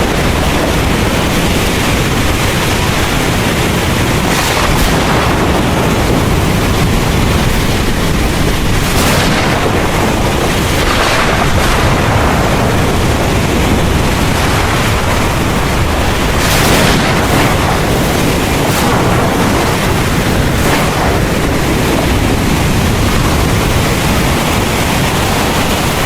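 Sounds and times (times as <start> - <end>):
heavy rain pouring: 0.0 - 26.0
low rumble of thunder: 0.0 - 26.0.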